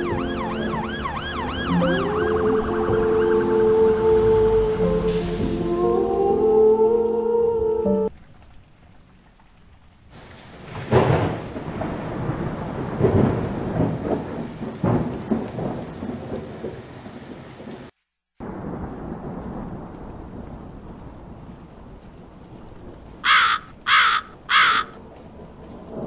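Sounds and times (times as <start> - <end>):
thunder rolling: 0.0 - 6.7, 8.0 - 26.0
steady rain: 0.0 - 26.0.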